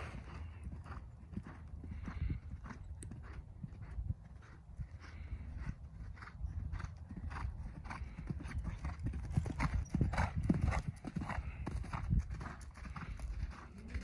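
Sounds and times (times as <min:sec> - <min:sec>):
horse hoofbeats cantering on sand: 0:00.0 - 0:14.0.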